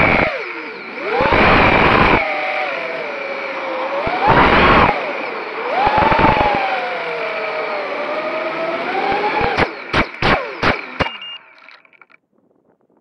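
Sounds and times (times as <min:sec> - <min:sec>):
drone motors whining: 0:00.0 - 0:12.2.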